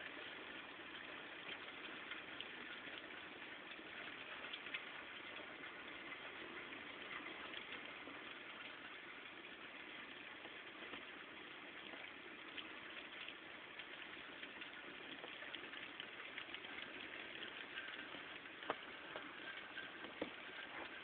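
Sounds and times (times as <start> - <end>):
raindrops tapping on glass: 1.7 - 21.0.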